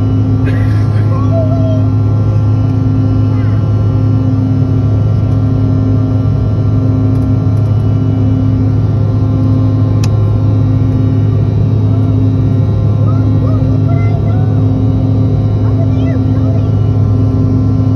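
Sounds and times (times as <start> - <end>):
airliner cabin drone: 0.0 - 17.9.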